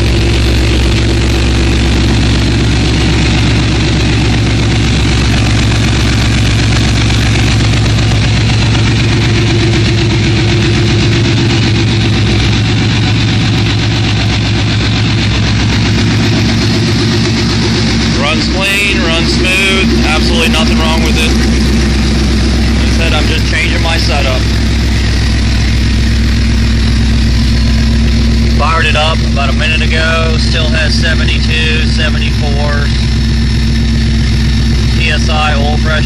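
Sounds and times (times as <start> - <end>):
supercharged car engine idling: 0.0 - 36.0.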